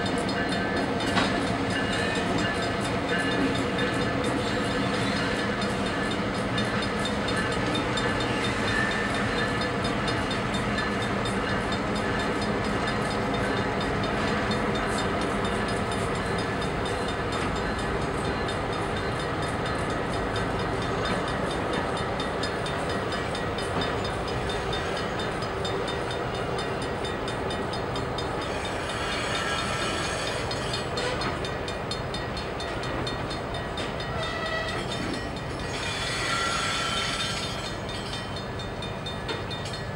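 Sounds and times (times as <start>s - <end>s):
diesel locomotive engines: 0.0s - 39.9s
train wheels clicking on rail joints: 0.0s - 39.9s.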